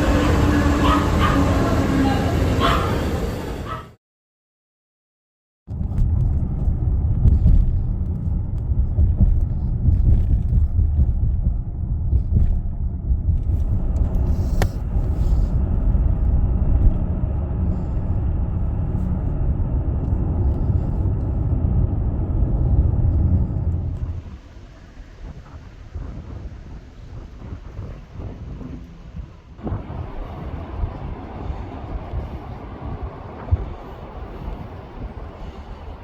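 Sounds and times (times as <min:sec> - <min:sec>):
train rumbling along track: 0:00.0 - 0:04.0, 0:05.7 - 0:36.0.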